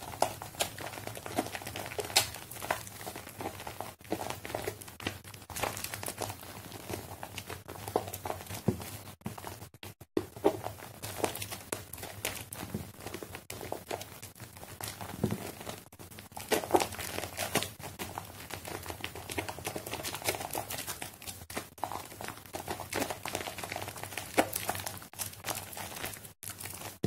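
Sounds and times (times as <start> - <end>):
foam bubbles popping: 0.0 - 27.0.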